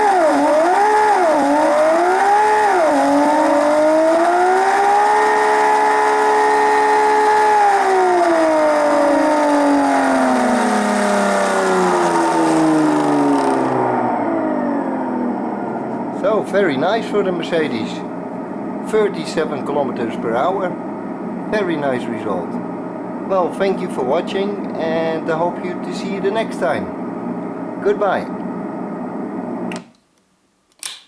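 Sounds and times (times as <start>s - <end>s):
electric motor and gears whining: 0.0s - 28.6s.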